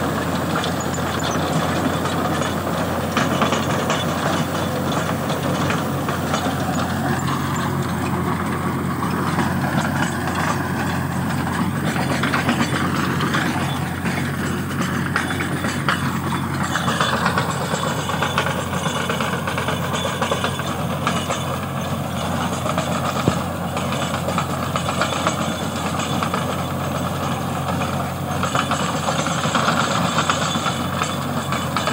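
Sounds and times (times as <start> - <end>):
rotavator churning soil: 0.0 - 31.9
tractor diesel engine running: 0.0 - 31.9.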